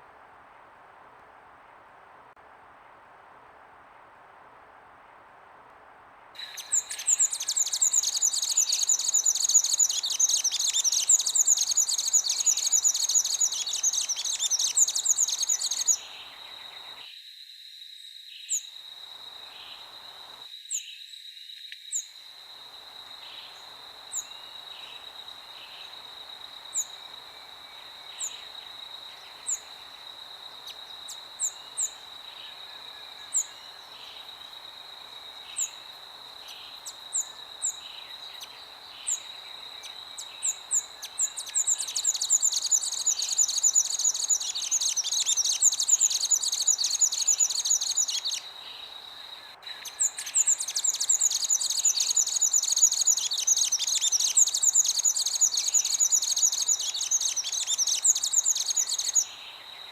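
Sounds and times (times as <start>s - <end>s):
soft hiss: 0.0s - 17.1s, 21.6s - 59.9s
songbirds chorus: 6.4s - 17.1s, 22.7s - 59.9s.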